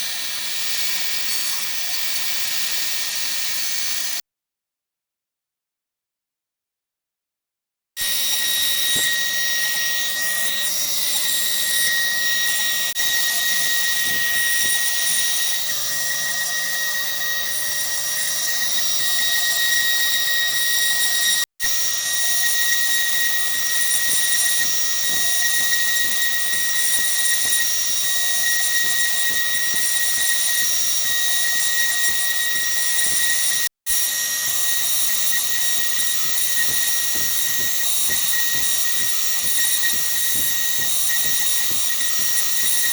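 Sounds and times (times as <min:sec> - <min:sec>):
router spindle whine: 0:00.0 - 0:04.2, 0:08.0 - 0:42.9.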